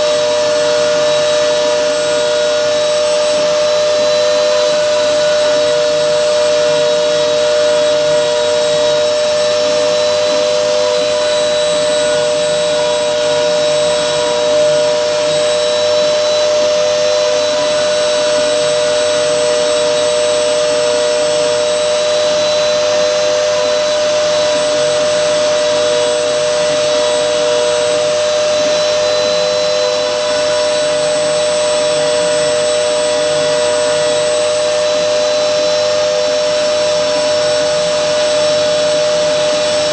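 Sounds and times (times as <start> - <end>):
cnc router spindle whining: 0.0 - 39.9.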